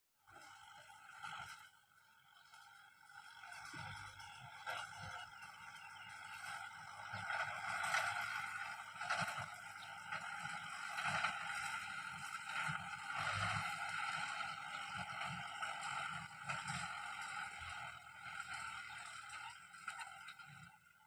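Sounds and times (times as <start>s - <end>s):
tractor diesel engine under load: 0.2s - 21.0s.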